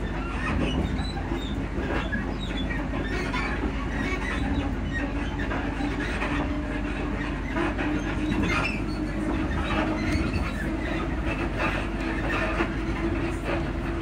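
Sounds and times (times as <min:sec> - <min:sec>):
constant hum: 0:00.0 - 0:14.0
train low rumble: 0:00.0 - 0:14.0.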